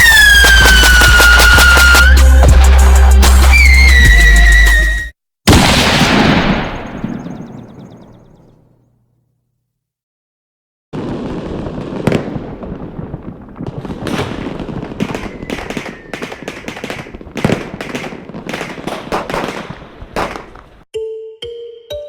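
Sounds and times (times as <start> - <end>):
firework bangs and crackling: 0.0 - 8.0, 11.0 - 20.9.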